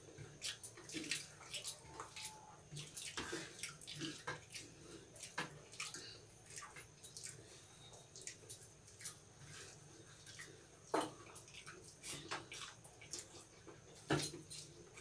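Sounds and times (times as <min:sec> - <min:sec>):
people chewing and smacking: 0:00.0 - 0:15.0.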